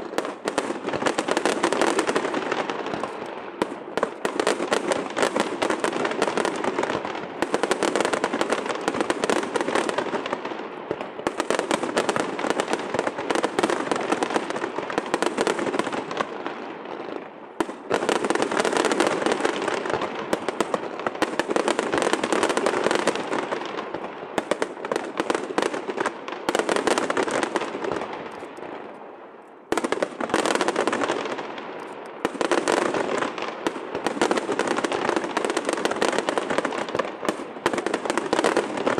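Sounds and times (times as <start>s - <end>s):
fireworks pops and bangs: 0.0s - 38.9s.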